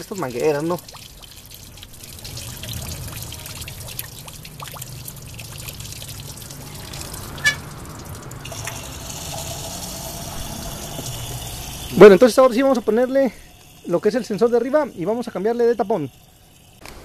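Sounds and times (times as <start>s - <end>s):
coolant trickling: 0.0s - 16.8s.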